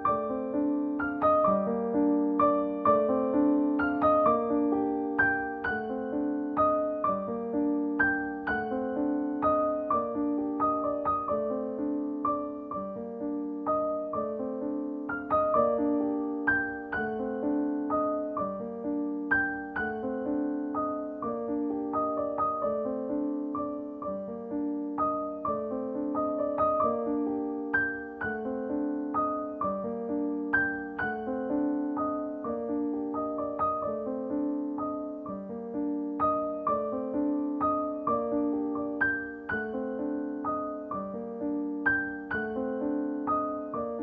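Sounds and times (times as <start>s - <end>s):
piano music: 0.0s - 44.0s.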